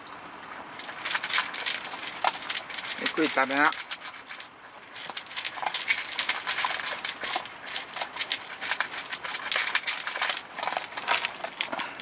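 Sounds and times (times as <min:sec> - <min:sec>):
dogs crunching dog food: 0:00.7 - 0:12.0.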